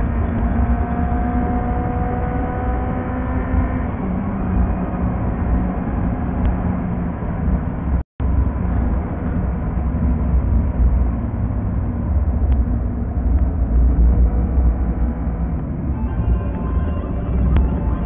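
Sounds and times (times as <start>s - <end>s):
car engine and tyre drone: 0.0s - 18.0s.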